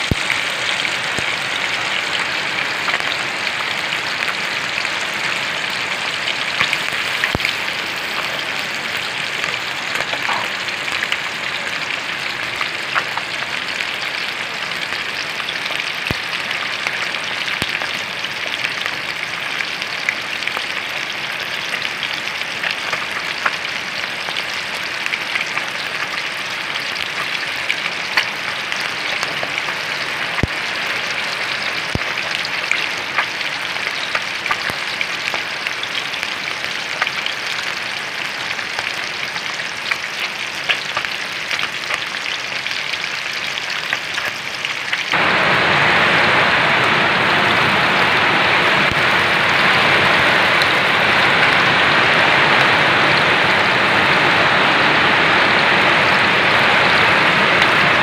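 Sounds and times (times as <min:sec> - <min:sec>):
fish frying in oil: 0:00.0 - 0:58.0.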